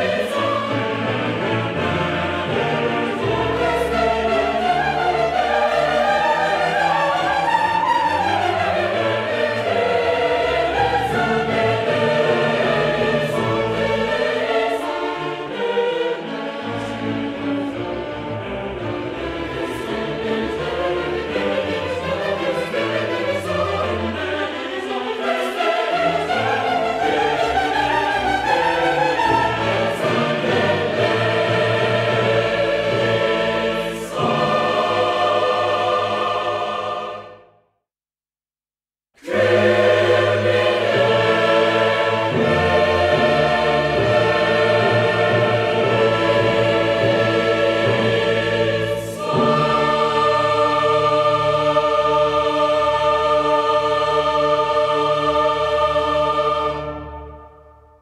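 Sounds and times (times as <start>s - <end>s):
choir singing with orchestra: 0.0s - 37.6s, 39.2s - 58.0s.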